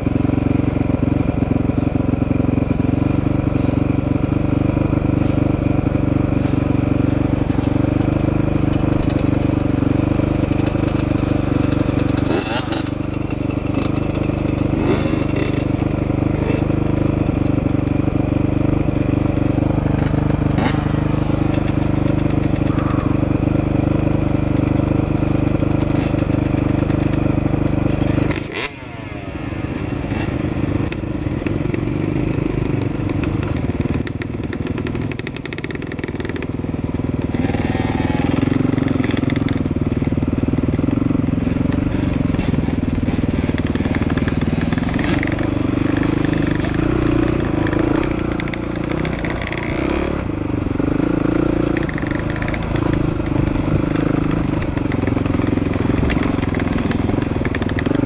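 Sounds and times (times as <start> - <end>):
dirt bike engine revving away: 0.0 - 36.5, 37.3 - 58.0
dirt bike engines idling: 0.0 - 58.0.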